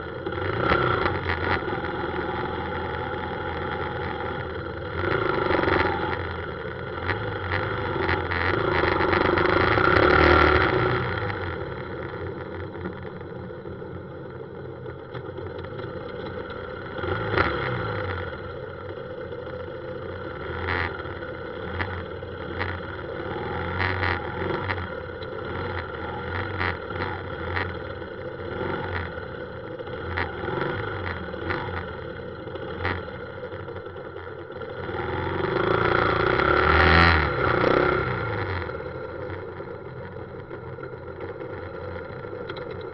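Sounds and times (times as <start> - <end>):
motorcycle engine: 0.0 - 42.9
road noise: 0.0 - 42.9.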